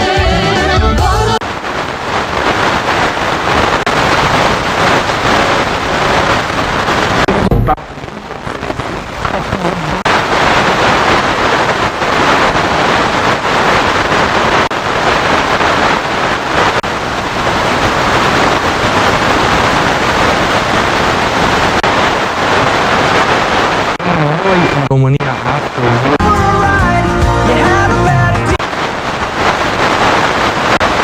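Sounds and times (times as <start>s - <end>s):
radio static hiss: 1.2s - 31.0s.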